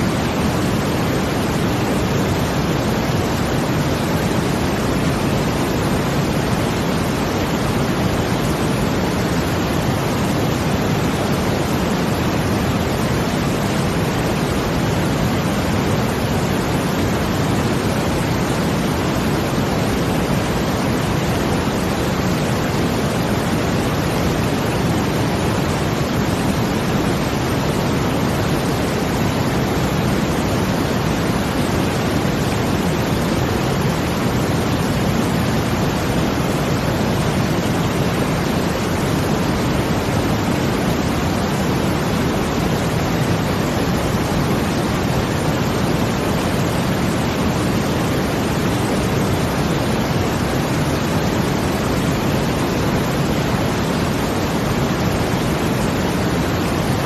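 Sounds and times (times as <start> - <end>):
brown noise hiss: 0.0 - 57.0
rushing water: 0.0 - 57.0.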